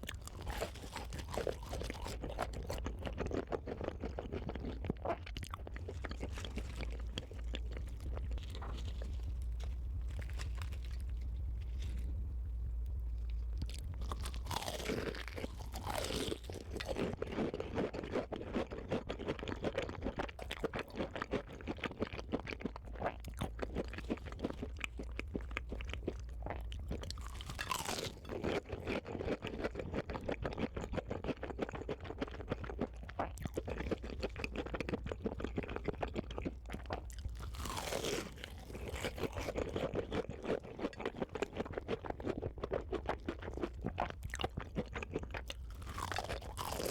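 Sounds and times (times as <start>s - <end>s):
crunchy chewing: 0.0s - 46.9s.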